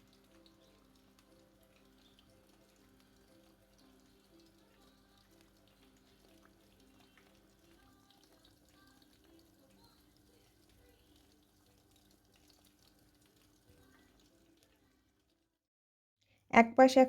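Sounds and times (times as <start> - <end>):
food frying in hot oil: 0.0 - 15.6
quiet background music: 0.0 - 15.6.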